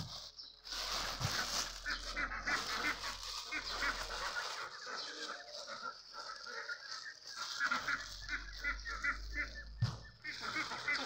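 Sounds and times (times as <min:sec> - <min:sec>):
plastic bags rustling: 0:00.0 - 0:11.0
fowl calling: 0:00.7 - 0:11.0.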